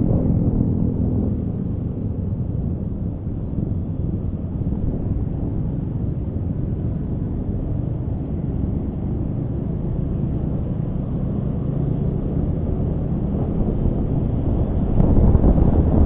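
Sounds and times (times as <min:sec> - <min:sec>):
road noise: 0:00.0 - 0:16.0
wind on microphone: 0:00.0 - 0:16.0.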